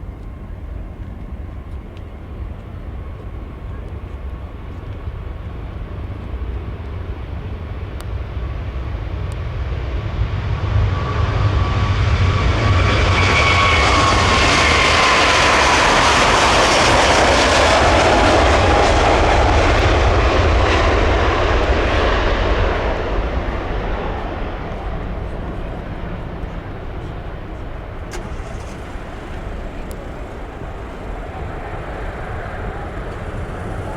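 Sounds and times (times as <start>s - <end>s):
jet engines at takeoff: 0.0s - 33.9s.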